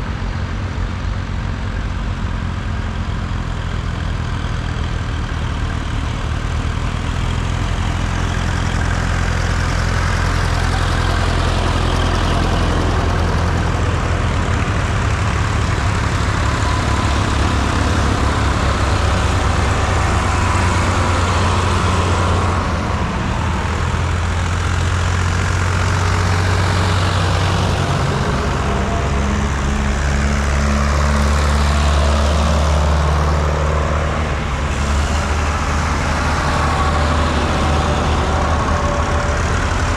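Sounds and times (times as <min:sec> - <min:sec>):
tractor diesel engines running: 0:00.0 - 0:39.9.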